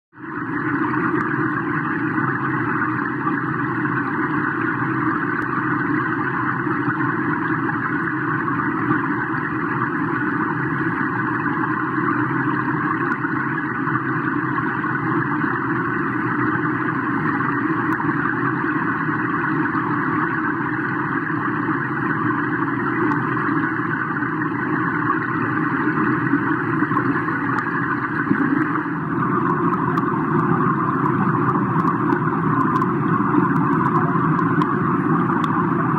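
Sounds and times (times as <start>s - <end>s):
underwater pool rumble: 0.2s - 35.9s.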